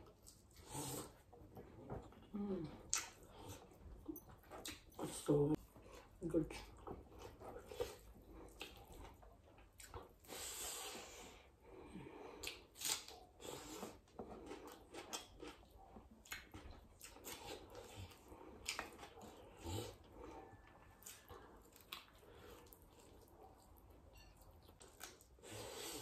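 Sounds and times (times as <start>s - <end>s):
person chewing with wet smacks: 0.0s - 10.4s, 12.2s - 26.0s.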